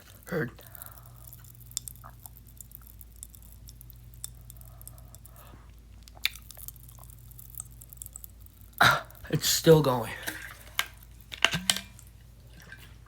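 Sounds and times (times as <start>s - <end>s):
popping candy crackling: 0.0s - 13.0s.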